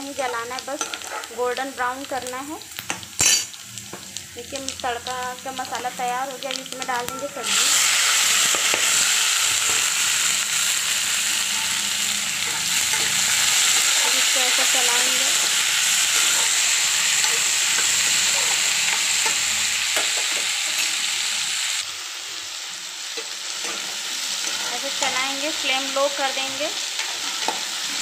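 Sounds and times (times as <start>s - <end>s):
beans sizzling in hot oil: 0.0s - 28.0s.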